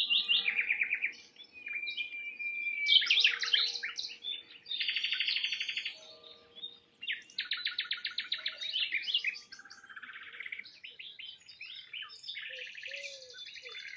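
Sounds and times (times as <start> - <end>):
songbirds singing: 0.0 - 13.9.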